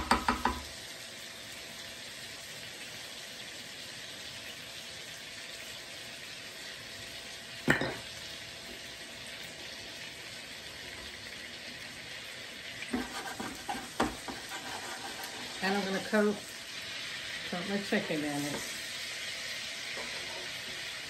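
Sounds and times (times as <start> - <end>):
chicken sizzling in a skillet: 0.0 - 21.0.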